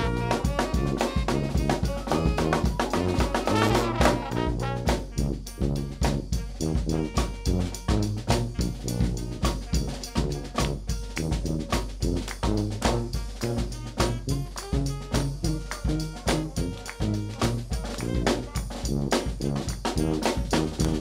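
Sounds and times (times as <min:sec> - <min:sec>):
alto saxophone: 0:00.0 - 0:21.0
bass and snare drum beat: 0:00.0 - 0:21.0
sousaphone bass line: 0:00.0 - 0:21.0
trombone: 0:00.0 - 0:21.0
trumpet: 0:00.0 - 0:21.0.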